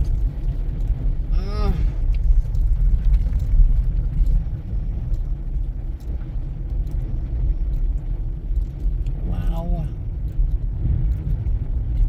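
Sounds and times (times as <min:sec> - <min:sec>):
car engine and tyres rumbling: 0:00.0 - 0:12.0
faint ticks: 0:02.0 - 0:12.0.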